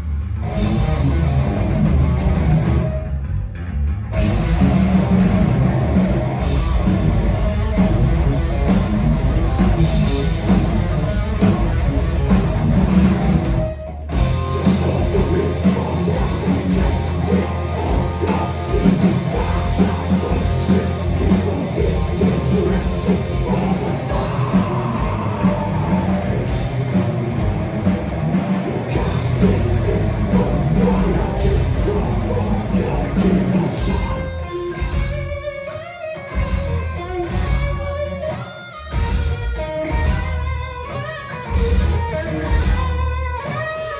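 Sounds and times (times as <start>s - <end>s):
bass guitar: 0.0s - 43.9s
distorted electric guitar: 0.0s - 43.9s
drum kit: 0.4s - 43.9s.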